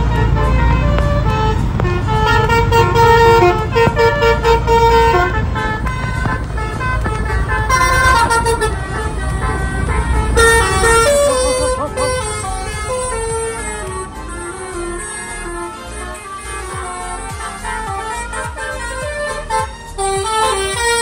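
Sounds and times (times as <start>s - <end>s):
bus engine running: 0.0s - 21.0s
multi-tone bus horn melody: 0.0s - 21.0s.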